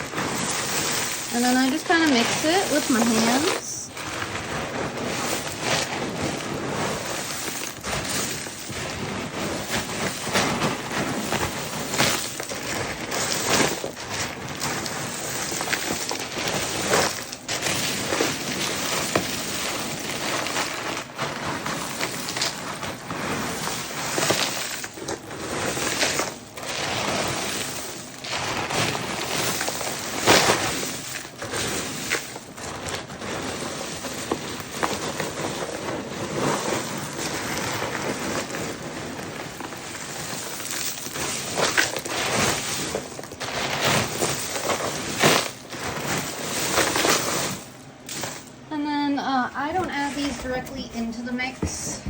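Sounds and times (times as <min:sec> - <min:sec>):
dry snack mix rattling when stirred: 0:00.0 - 0:52.0.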